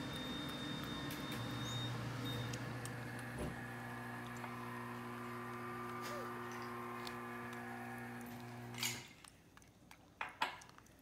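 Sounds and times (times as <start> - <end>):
machine humming: 0.0 - 9.0.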